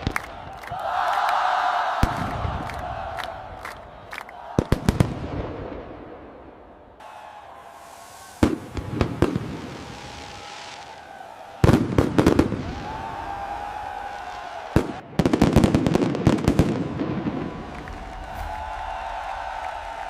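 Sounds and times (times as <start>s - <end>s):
fireworks bangs and crackles: 0.0s - 0.7s, 2.0s - 3.7s, 4.4s - 20.0s.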